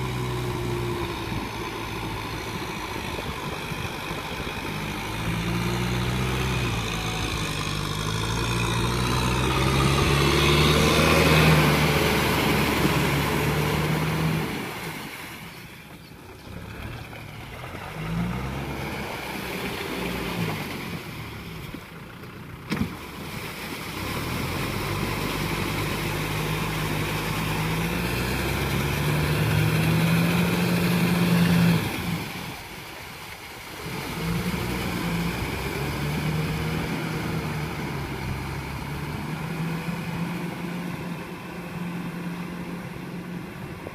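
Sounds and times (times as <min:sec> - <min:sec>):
tractor engine labouring in mud: 0:00.0 - 0:43.9.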